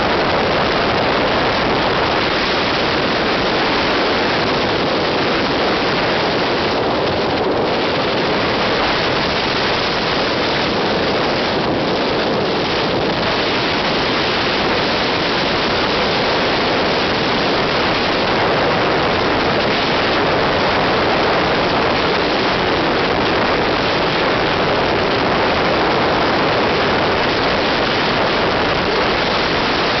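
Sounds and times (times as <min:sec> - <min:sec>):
wind and tyre noise: 0:00.0 - 0:30.0.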